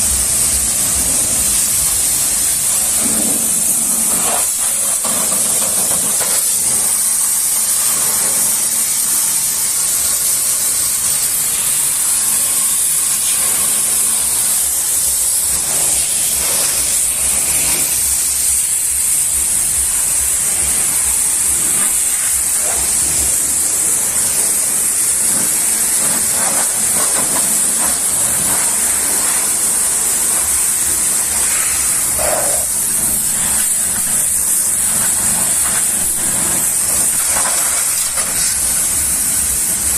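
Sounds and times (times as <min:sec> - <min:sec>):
pressure washer jet spraying: 0:00.0 - 0:39.9.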